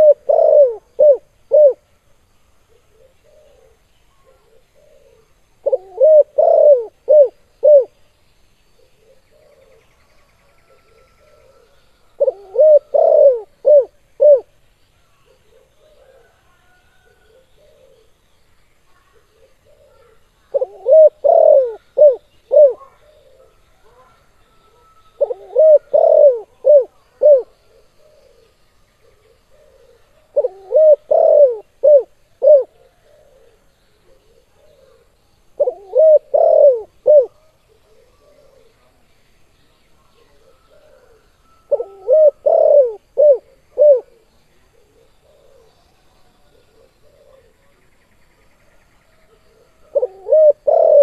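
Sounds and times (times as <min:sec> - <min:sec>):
dove cooing: 0:00.0 - 0:01.9, 0:02.6 - 0:08.0, 0:08.8 - 0:14.6, 0:15.2 - 0:18.2, 0:19.0 - 0:39.0, 0:40.2 - 0:47.7, 0:49.2 - 0:51.0.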